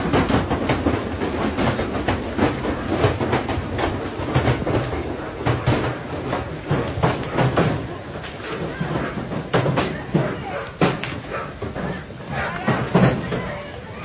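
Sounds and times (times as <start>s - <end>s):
hail and rain clattering: 0.0s - 14.0s.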